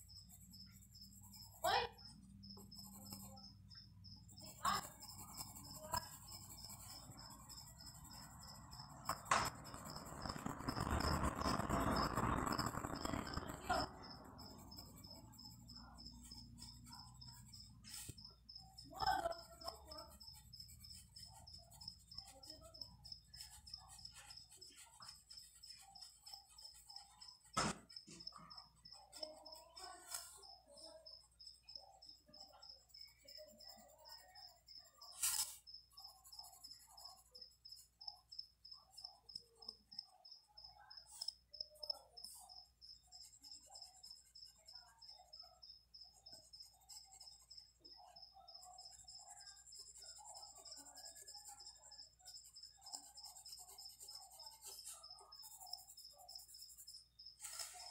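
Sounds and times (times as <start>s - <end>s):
insect chirping: 0.0s - 57.9s
scratch: 0.0s - 57.9s.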